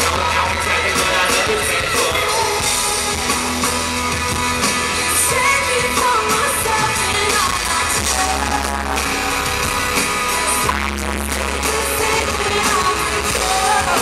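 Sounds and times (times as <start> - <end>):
lead vocal singing: 0.0 - 14.0
live pop band music: 0.0 - 14.0.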